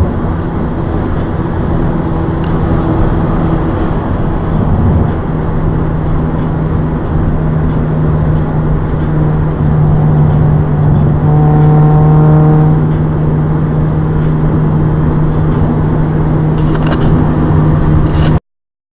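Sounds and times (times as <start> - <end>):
car engine and exhaust drone: 0.0 - 18.4.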